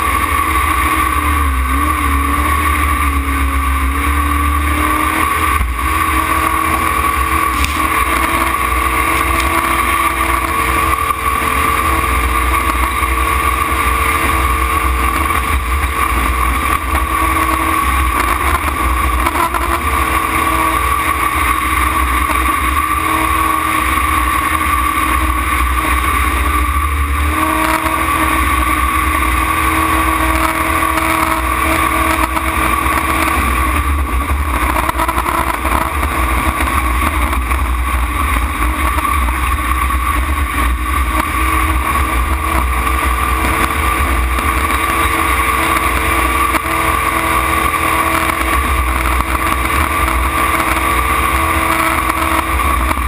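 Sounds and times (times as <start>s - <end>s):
jet boat engine running hard: 0.0s - 53.0s.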